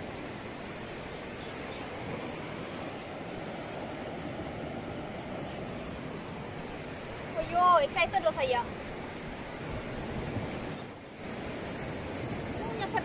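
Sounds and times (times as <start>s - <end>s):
sea waves on rocky shore: 0.0s - 13.0s.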